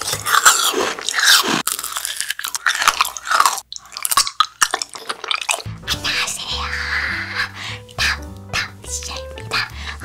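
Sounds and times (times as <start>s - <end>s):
person chewing crunchy sweets: 0.0s - 8.1s.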